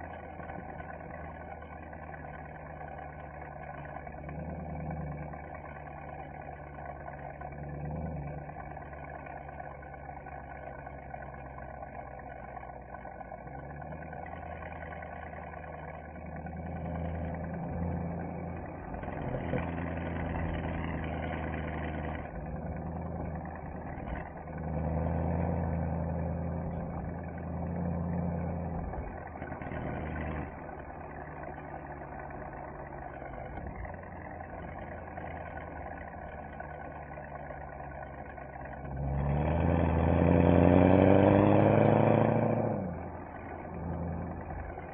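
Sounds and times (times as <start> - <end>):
car engine and exhaust revving: 0.0 - 44.9.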